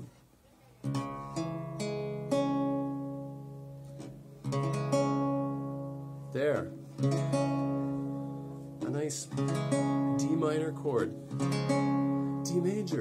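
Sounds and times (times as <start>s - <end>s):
lute chords and plucked notes: 0.8s - 13.0s.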